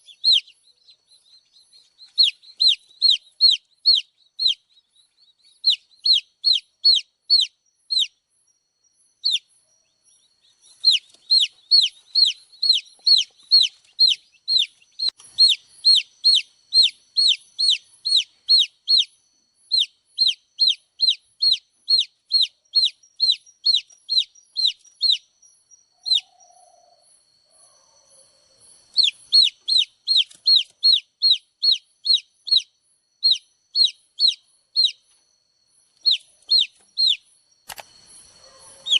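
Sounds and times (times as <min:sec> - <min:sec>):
baby chick peeping: 0:00.0 - 0:35.2, 0:35.9 - 0:37.3, 0:38.2 - 0:38.9.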